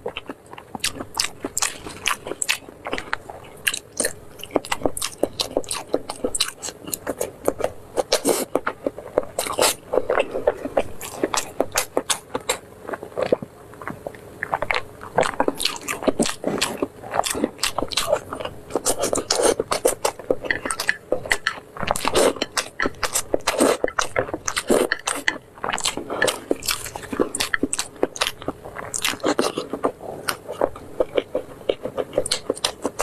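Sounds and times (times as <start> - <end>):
wet chewing of noodles: 0.0 - 33.0.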